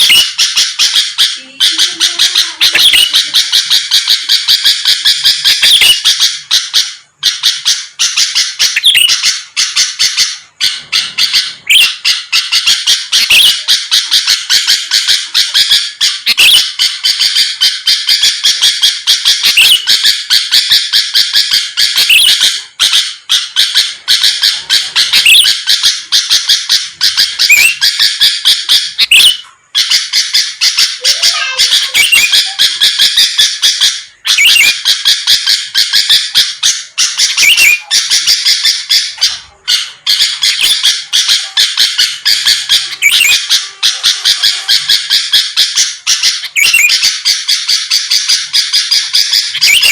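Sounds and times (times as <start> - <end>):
bulbul singing: 0.0 - 49.9.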